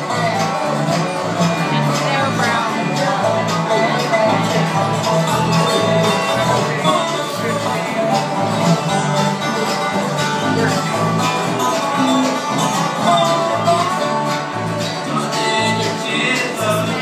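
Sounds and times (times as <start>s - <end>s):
bluegrass band playing: 0.0s - 17.0s
upright bass low notes: 0.0s - 17.0s.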